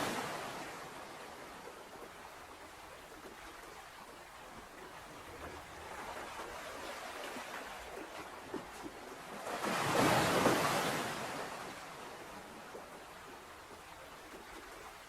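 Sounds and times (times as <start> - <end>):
ocean waves surf hiss: 0.0 - 8.4, 9.2 - 15.0.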